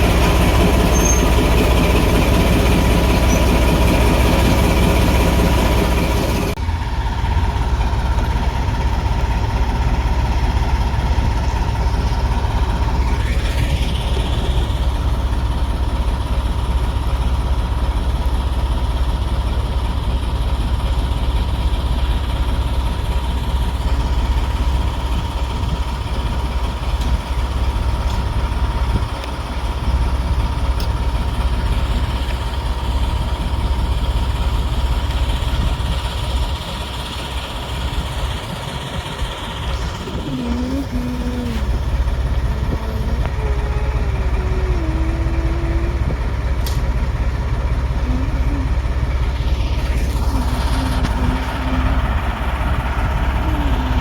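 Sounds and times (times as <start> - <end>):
diesel locomotive engine rumbling: 0.0 - 54.0.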